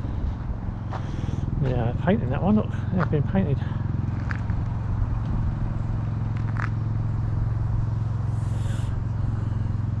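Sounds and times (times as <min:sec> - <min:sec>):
low engine hum idling: 0:00.0 - 0:10.0.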